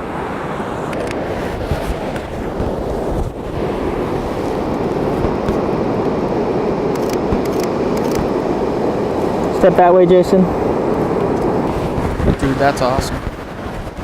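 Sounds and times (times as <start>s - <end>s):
ocean surf washing up beach: 0.0s - 14.0s
wind on microphone: 0.0s - 14.0s.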